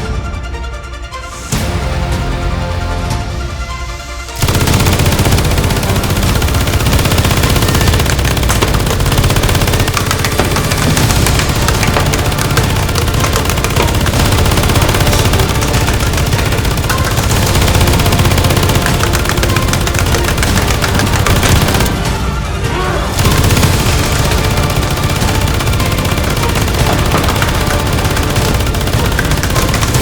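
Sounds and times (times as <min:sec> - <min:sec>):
loud action music: 0:00.0 - 0:30.0
rapid blaster shots: 0:04.4 - 0:22.2, 0:23.2 - 0:30.0.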